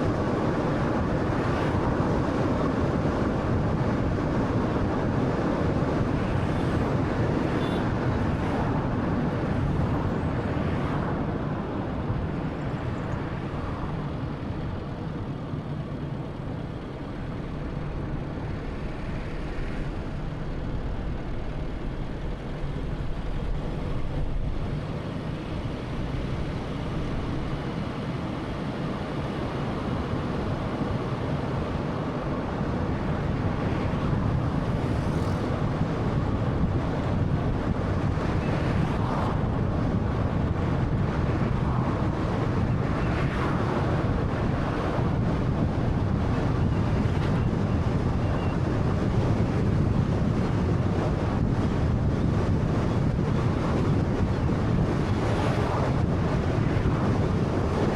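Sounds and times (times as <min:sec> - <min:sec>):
road and tyre noise: 0:00.0 - 0:57.9.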